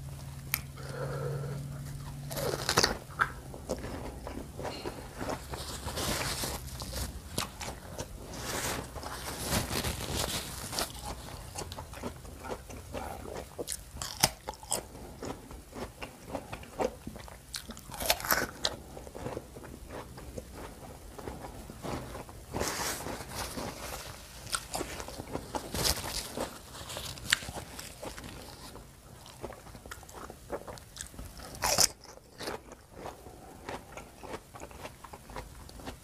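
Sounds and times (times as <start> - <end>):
chewing crisp fruit: 0.0 - 36.0.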